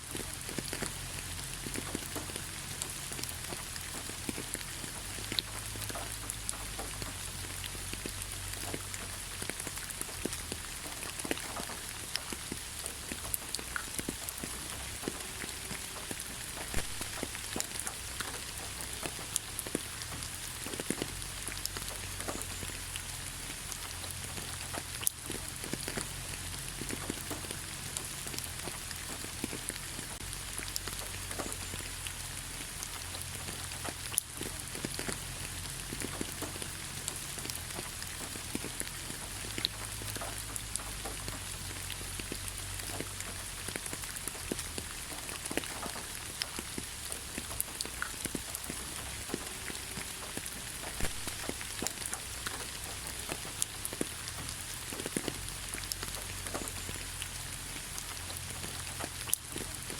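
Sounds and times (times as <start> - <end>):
light rain on leaves: 0.0 - 59.9.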